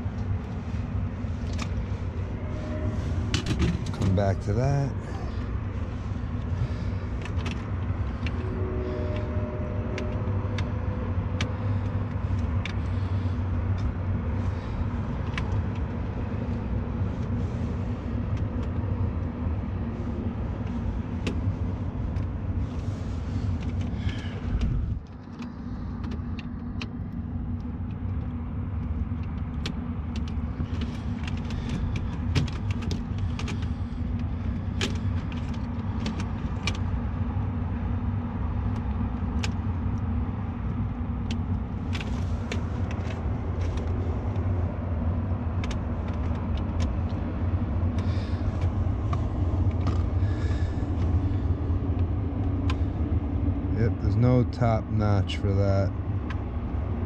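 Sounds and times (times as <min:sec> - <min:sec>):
low mechanical drone: 0:00.0 - 0:57.0.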